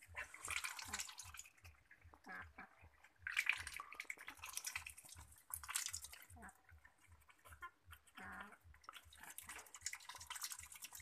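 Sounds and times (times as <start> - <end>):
ducks slurping and splashing: 0.0 - 11.0.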